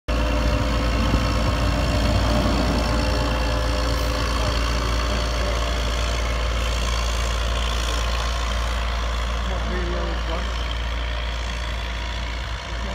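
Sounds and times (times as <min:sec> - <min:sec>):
grader diesel engine droning: 0:00.1 - 0:12.9.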